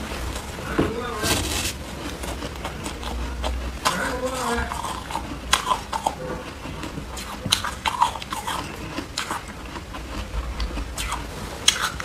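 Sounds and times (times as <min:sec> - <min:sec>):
ice being chewed: 0:00.0 - 0:12.0.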